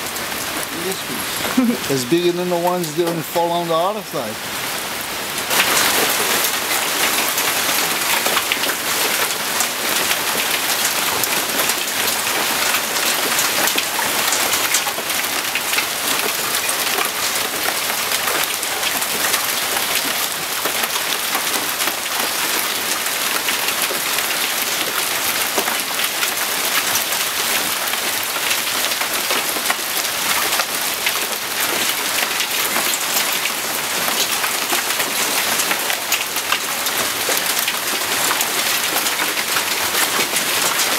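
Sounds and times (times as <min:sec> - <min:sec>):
hail and heavy rain pelting: 0:00.0 - 0:40.9.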